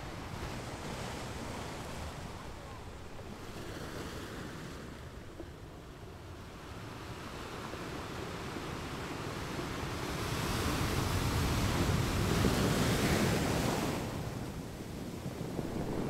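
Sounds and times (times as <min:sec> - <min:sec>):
low rumble of the sea: 0:00.0 - 0:16.0
wave breaking and washing in: 0:00.0 - 0:16.0.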